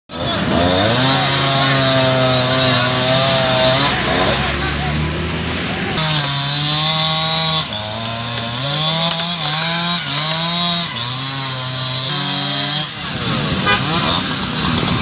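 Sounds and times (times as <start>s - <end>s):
chainsaw revving: 0.1s - 15.0s.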